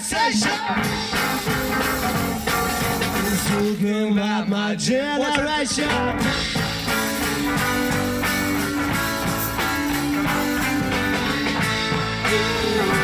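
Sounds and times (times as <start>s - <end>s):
electric bass: 0.6s - 4.0s, 5.8s - 13.0s
strummed acoustic guitar: 0.6s - 4.0s, 6.0s - 13.0s.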